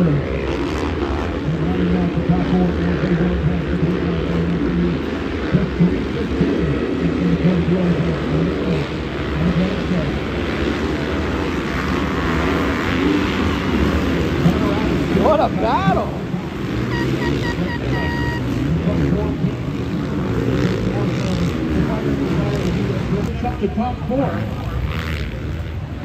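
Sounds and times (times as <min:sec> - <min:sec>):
motocross bikes revving past: 0:00.0 - 0:26.0.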